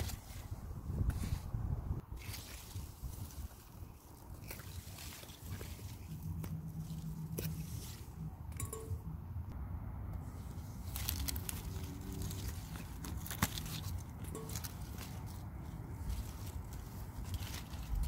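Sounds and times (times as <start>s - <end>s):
leaves rustling and crackling: 0.0s - 8.7s, 10.2s - 18.0s.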